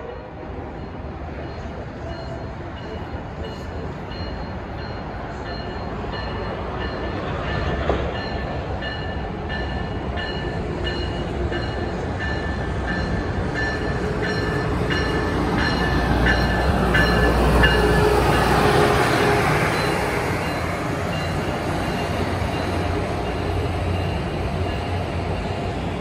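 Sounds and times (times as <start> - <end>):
train bell ringing: 0.0 - 25.8
train rumbling: 0.0 - 26.0.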